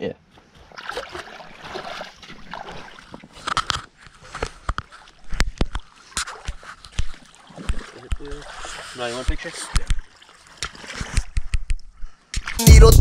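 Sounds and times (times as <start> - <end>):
stream water sloshing around net: 0.3 - 12.3.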